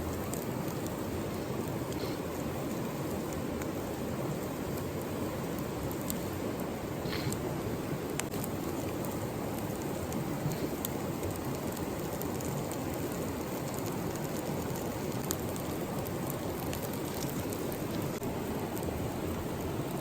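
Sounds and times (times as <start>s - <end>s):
faint rain ticks: 0.0s - 20.0s
steady rain hiss: 0.0s - 20.0s.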